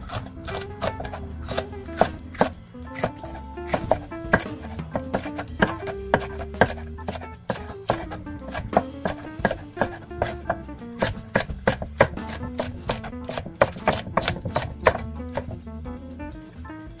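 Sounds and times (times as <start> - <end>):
knife chopping on wooden board: 0.0 - 15.6
background music: 0.0 - 17.0.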